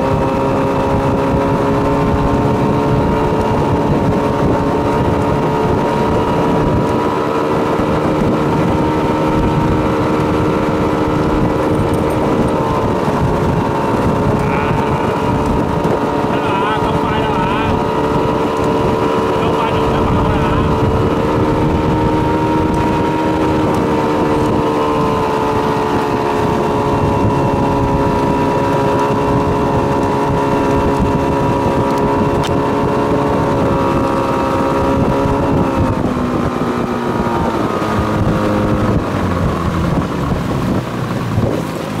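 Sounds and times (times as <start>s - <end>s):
motorboat engine running: 0.0s - 42.0s
water noise: 0.0s - 42.0s
wind: 0.0s - 42.0s.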